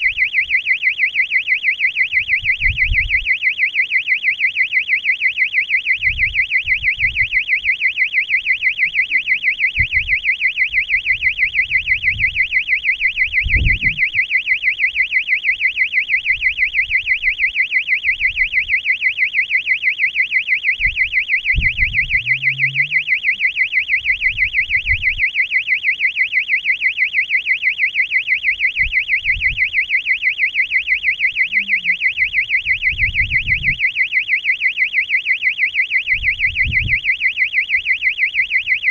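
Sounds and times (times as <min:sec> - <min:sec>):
high warbling alarm tone: 0:00.0 - 0:38.9.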